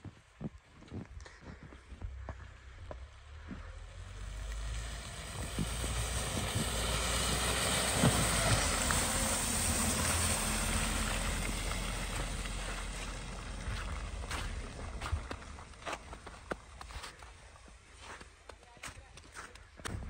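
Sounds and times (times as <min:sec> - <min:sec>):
low engine rumble: 0:01.1 - 0:18.1
tyres on slush: 0:03.2 - 0:19.6.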